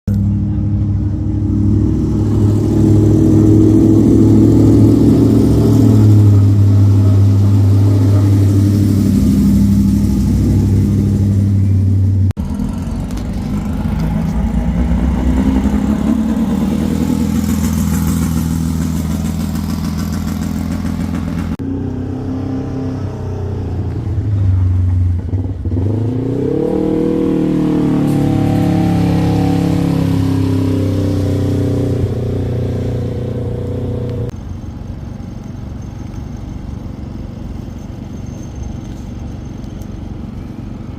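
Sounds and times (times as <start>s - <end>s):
engine revving: 0.1s - 34.4s
vehicle engines running: 0.1s - 40.9s.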